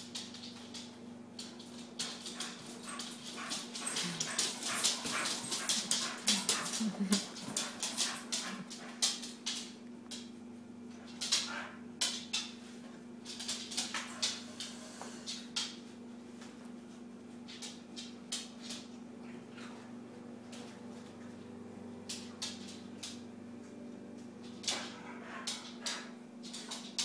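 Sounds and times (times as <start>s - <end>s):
puppy claws clicking on wood floor: 0.0s - 12.6s, 13.2s - 15.9s, 17.4s - 19.8s, 22.0s - 27.0s.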